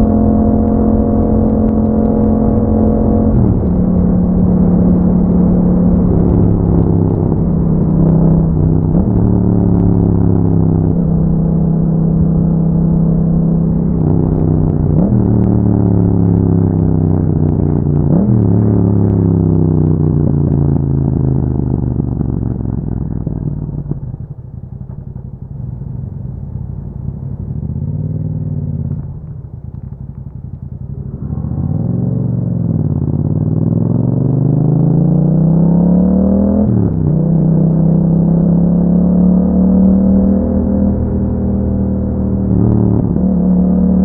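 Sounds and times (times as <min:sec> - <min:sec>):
motorcycle engine: 0:00.0 - 0:44.0.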